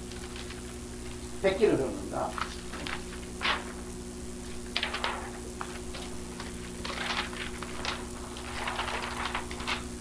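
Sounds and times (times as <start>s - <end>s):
paper sheets rustling: 0.0s - 10.0s
steady low hum: 0.0s - 10.0s.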